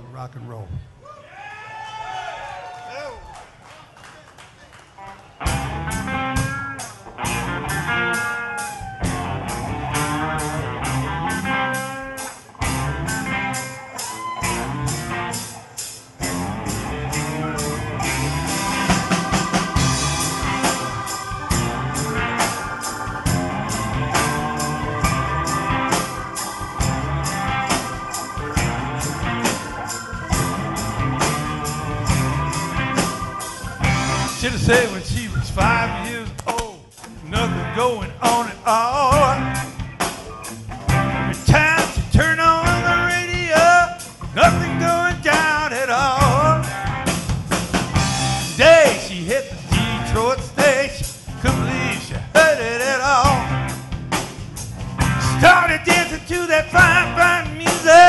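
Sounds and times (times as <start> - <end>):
electric guitars: 4.9 - 58.0
bass guitar: 5.0 - 58.0
drum kit with cymbal beat: 5.5 - 58.0.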